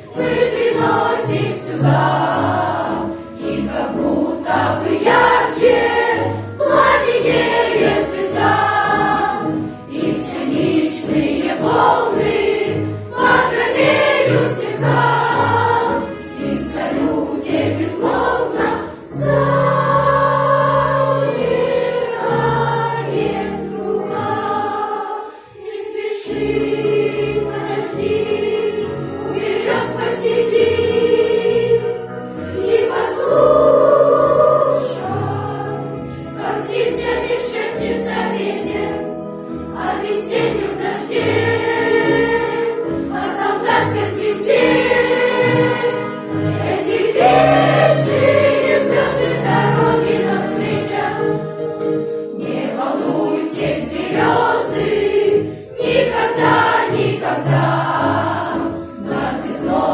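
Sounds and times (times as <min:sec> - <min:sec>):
choir singing: 0:00.0 - 0:59.9
musical accompaniment: 0:00.0 - 0:59.9.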